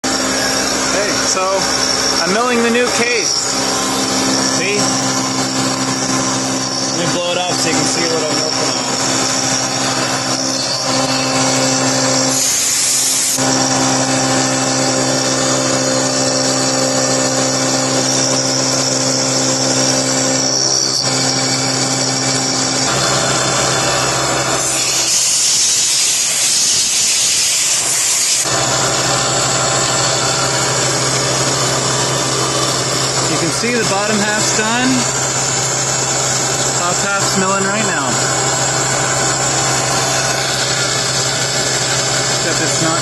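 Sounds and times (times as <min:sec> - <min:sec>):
milling machine spindle humming: 0:00.0 - 0:43.0.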